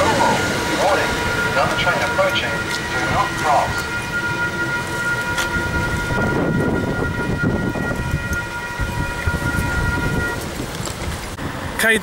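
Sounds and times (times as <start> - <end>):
electronic crossing alarm tone: 0.0 - 10.7
electric train rumble: 0.0 - 12.0.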